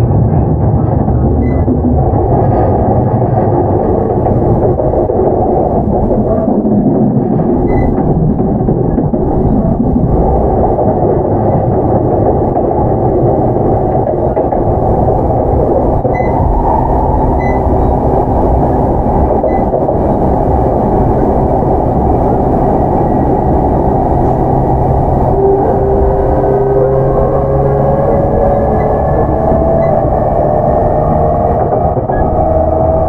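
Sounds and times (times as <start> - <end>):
rising inverter whine: 0.0 - 33.0
train wheels rumbling on rail: 0.0 - 33.0.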